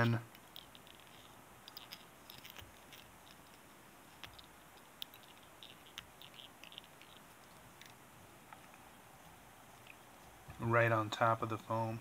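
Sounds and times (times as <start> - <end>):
thread ticking and crackling: 0.0 - 11.3.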